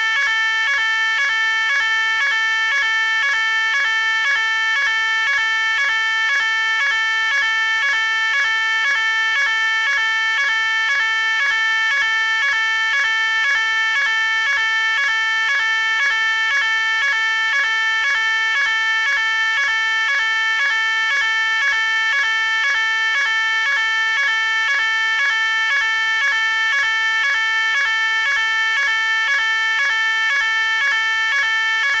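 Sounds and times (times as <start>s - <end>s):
fire alarm pulsing tone: 0.0s - 32.0s.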